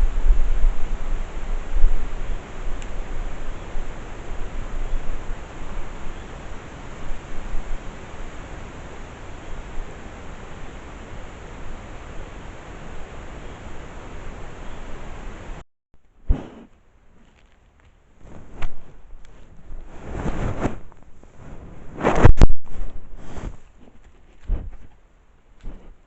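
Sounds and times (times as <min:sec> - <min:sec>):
wind noise on microphone: 0:00.0 - 0:15.6, 0:18.2 - 0:25.0, 0:25.6 - 0:26.0.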